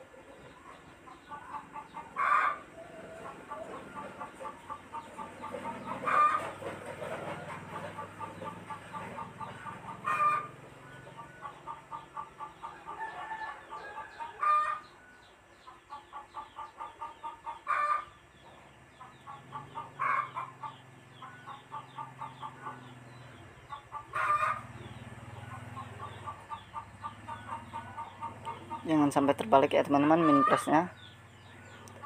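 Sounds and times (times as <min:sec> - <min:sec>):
hen cackling: 0:01.2 - 0:14.9, 0:16.0 - 0:18.2, 0:19.1 - 0:23.0, 0:23.6 - 0:29.2, 0:29.8 - 0:30.9.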